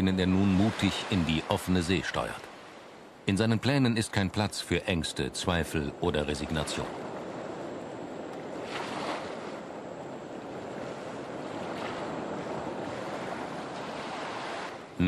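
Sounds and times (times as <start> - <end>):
waves breaking on beach: 0.0 - 3.3, 5.0 - 15.0.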